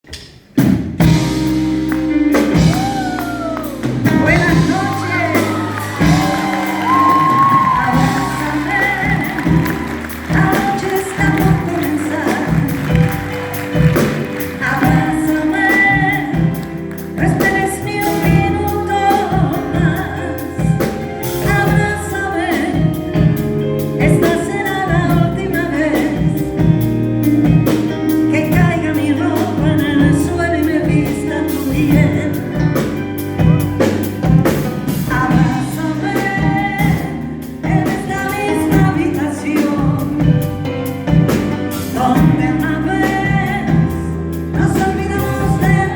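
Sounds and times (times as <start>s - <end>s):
live band music with singing: 0.0s - 45.9s.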